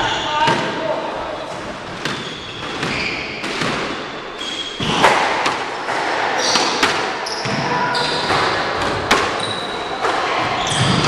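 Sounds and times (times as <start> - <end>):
shoes squeaking on wooden floor: 0.0 - 11.0
squash ball striking racquet and walls: 0.4 - 11.0.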